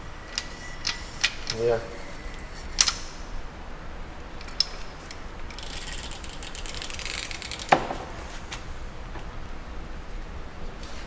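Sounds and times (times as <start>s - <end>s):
rapid mechanical clicking: 0.0s - 8.9s.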